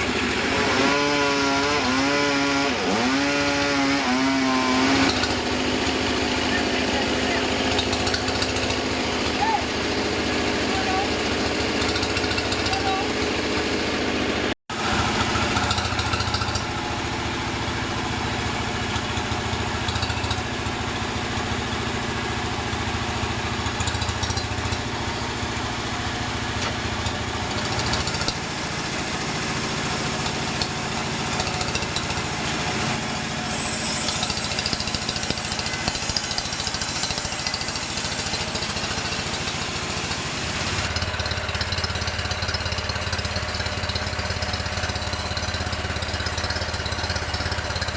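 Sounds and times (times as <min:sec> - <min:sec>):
sawmill machinery drone: 0:00.0 - 0:47.9.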